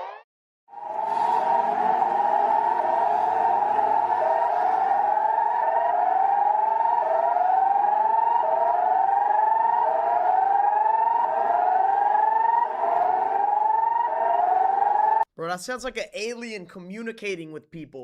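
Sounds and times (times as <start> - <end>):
electronic siren sweeping upward: 0.0 - 15.3.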